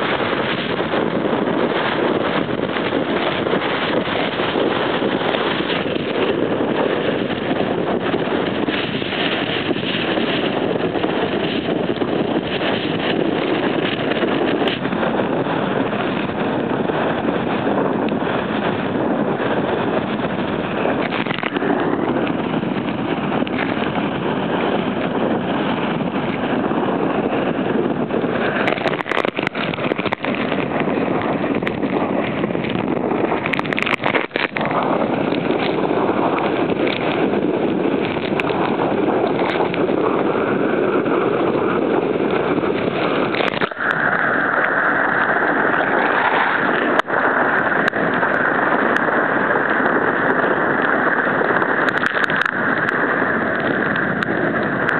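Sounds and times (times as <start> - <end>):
gale wind on microphone: 0.0 - 54.9
heavy breaking surf: 0.0 - 54.9
wind knocks on microphone: 0.0 - 54.9.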